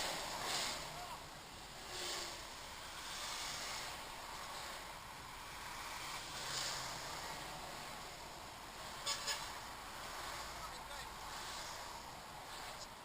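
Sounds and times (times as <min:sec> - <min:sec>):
vehicles swishing past: 0:00.0 - 0:13.0
wind and tyre noise: 0:00.0 - 0:13.0.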